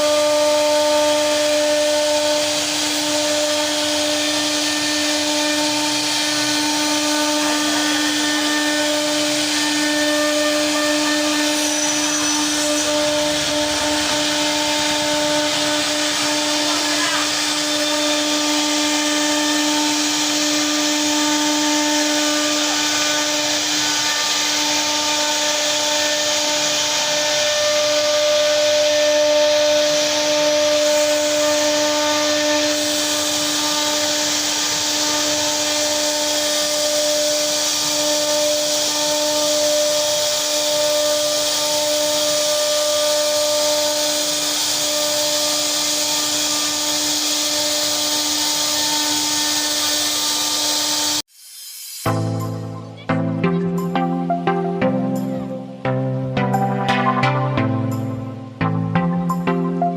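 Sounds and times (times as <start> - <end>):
router spindle whine: 0.0 - 51.3
bit cutting wood hiss: 0.0 - 55.4.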